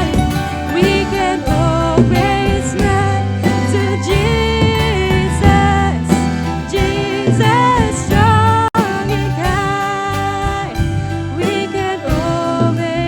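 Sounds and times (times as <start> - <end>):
worship song with singing: 0.0 - 13.0.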